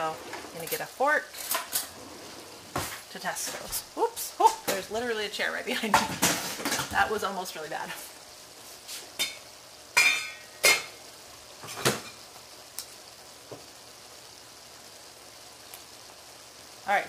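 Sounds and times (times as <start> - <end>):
faint stove hiss: 0.0 - 17.0.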